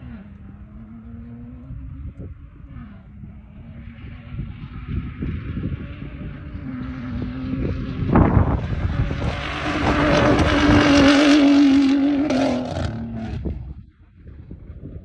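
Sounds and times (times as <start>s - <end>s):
road and wind noise: 0.0s - 15.0s
truck engine under hard throttle: 0.0s - 15.0s.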